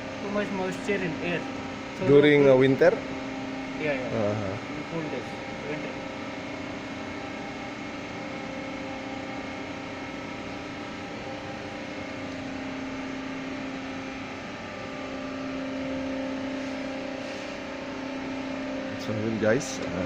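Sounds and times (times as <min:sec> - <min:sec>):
industrial machinery humming: 0:00.0 - 0:20.0.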